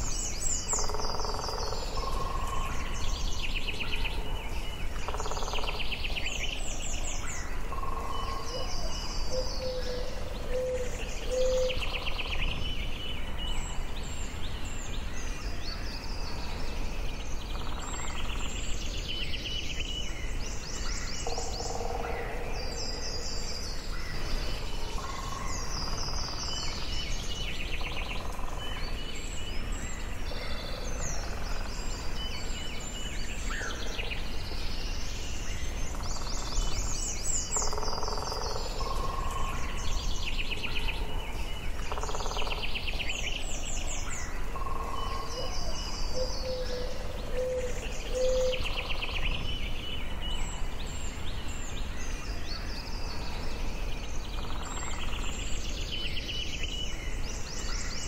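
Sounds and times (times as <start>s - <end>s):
birds singing and calling: 0.0s - 58.0s.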